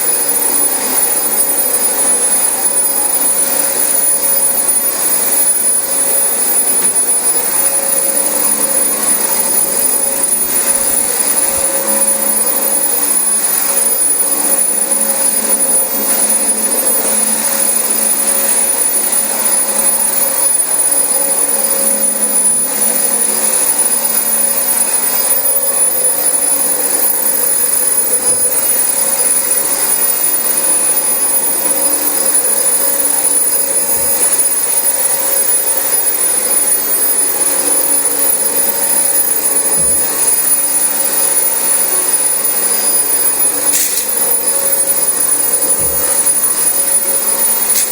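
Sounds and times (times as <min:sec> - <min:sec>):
upright vacuum cleaner running: 0:00.0 - 0:47.9.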